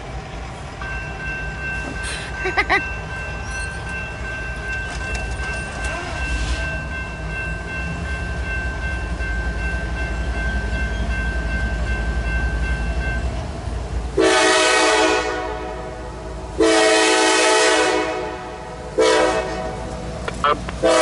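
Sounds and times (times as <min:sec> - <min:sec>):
crossing warning bell ringing: 0:00.0 - 0:21.0
diesel locomotives rumbling: 0:00.0 - 0:21.0.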